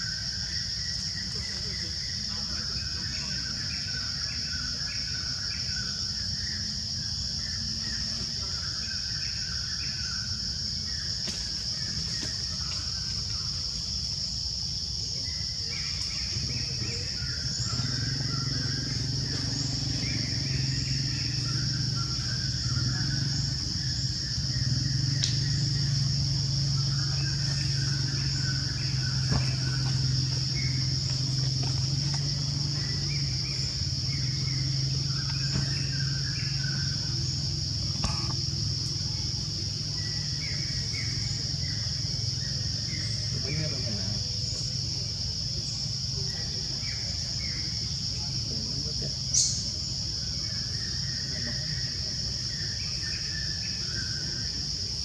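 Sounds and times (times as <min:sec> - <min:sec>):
high-pitched insect drone: 0:00.0 - 0:55.0.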